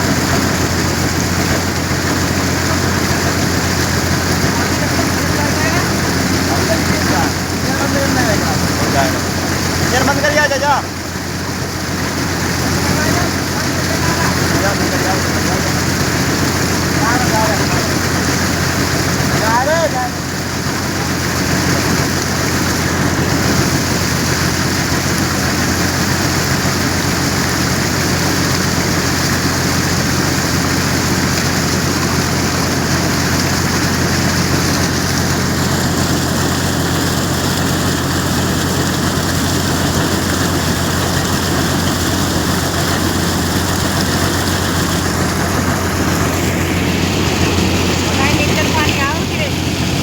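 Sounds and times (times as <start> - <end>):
air and water gushing: 0.0 - 50.0
machine engine humming: 0.0 - 50.0.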